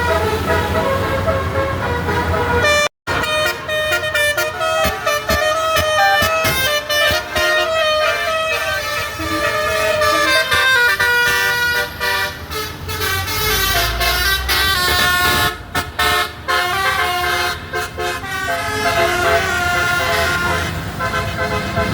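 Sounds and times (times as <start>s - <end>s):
low engine rumble: 0.0s - 21.9s
musical air horn tune: 0.0s - 21.9s.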